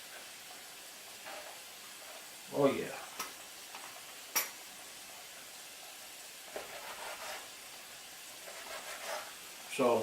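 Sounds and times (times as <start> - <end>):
plantain frying in hot oil: 0.0 - 10.0.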